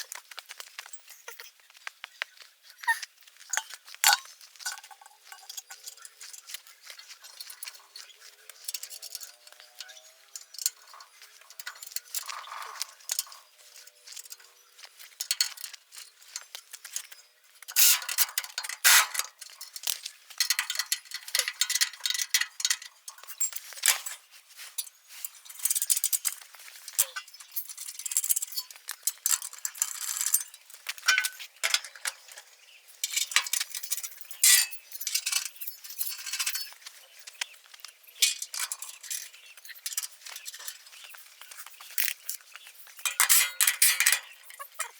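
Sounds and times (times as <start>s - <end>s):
metallic clinks and rattles: 2.8s - 44.9s.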